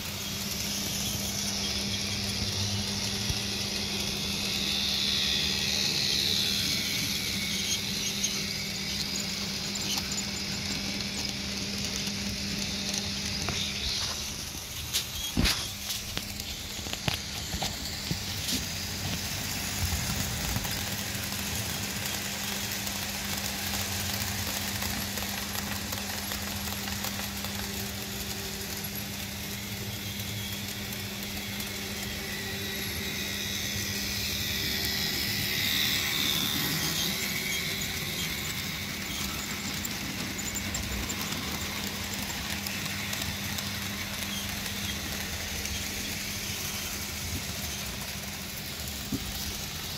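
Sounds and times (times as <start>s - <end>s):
model train motor humming: 0.0s - 49.9s
model train passing close: 0.0s - 49.9s.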